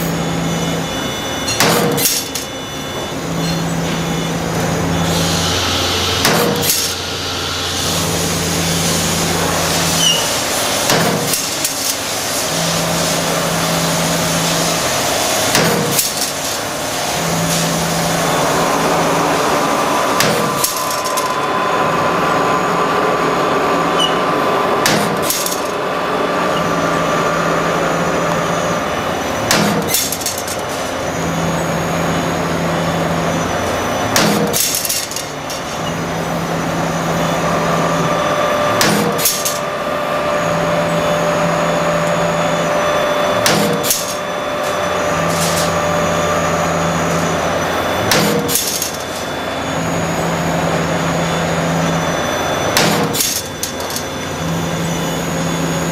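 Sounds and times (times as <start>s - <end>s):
continuous machine hum: 0.0s - 55.9s.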